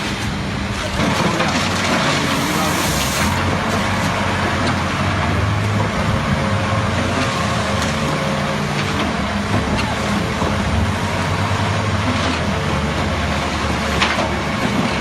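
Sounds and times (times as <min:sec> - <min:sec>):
concrete mixer pump engine humming: 0:00.0 - 0:15.0.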